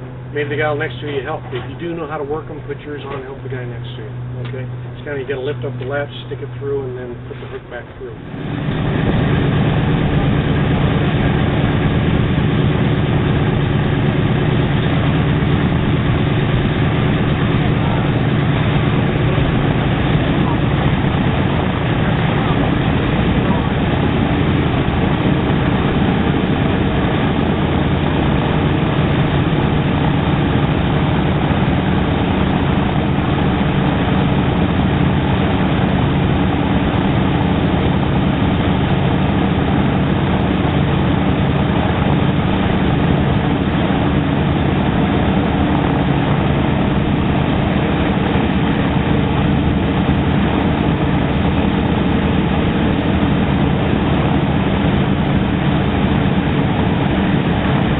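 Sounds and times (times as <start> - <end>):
propeller engine drone: 0.0 - 57.9.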